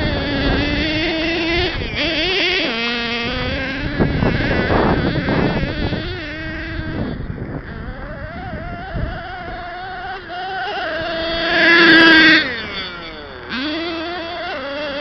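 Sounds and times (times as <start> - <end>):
small nitro engine buzzing: 0.0 - 15.0.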